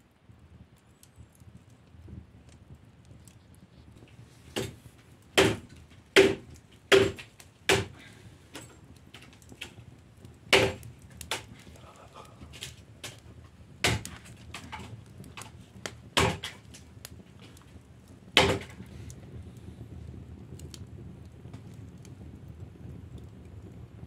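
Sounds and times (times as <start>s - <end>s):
low steady background noise: 0.0s - 24.0s
wood fire crackling and popping: 0.0s - 24.0s.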